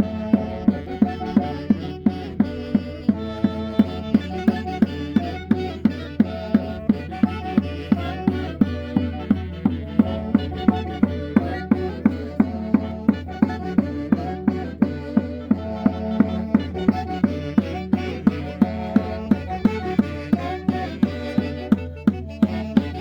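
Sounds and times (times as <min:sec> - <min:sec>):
drum beating steadily: 0:00.0 - 0:23.0
folk band melody: 0:00.0 - 0:23.0.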